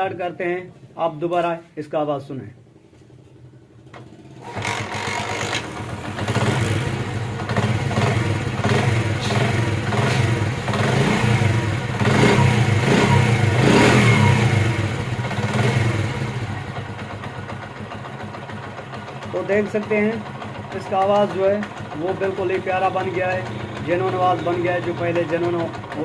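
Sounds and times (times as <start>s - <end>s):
motorcycle engine starting and revving: 2.8s - 26.0s.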